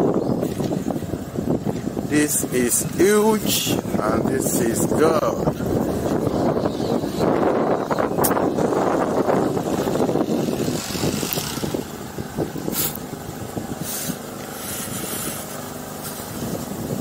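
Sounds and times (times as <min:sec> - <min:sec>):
engine hum: 0:00.0 - 0:17.0
wind buffeting microphone: 0:00.0 - 0:17.0.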